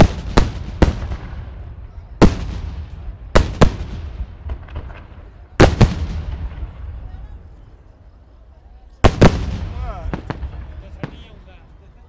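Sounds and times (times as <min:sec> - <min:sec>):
firework bangs: 0:00.0 - 0:07.3, 0:09.0 - 0:11.6
firework crackles: 0:00.0 - 0:07.5, 0:08.9 - 0:12.0.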